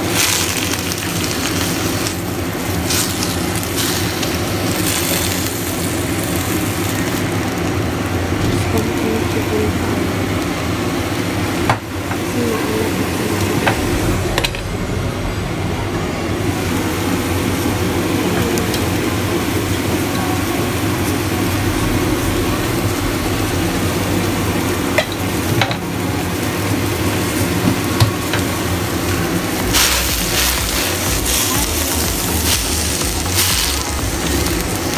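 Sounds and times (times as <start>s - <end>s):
greens sizzling in a wok: 0.0s - 13.5s, 16.6s - 34.9s.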